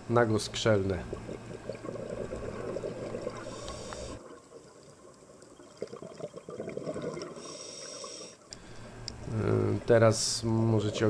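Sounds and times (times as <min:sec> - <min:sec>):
underwater bubbling and gurgling: 0:00.5 - 0:11.0.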